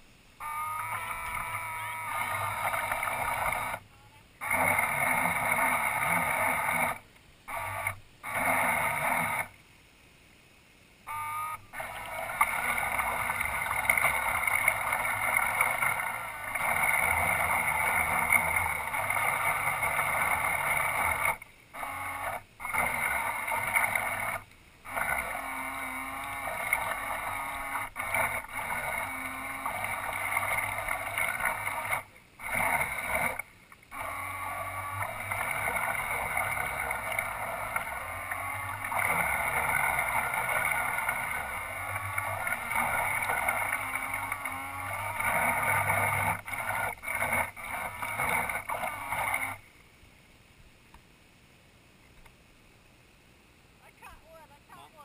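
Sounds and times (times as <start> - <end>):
model boat motors whirring: 0.0 - 9.6, 11.1 - 49.7.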